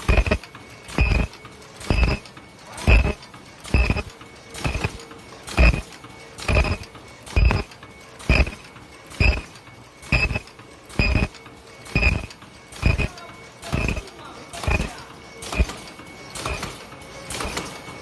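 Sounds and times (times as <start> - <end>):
machine clacking with ringing tone: 0.0 - 18.0
machine running hum: 0.0 - 18.0.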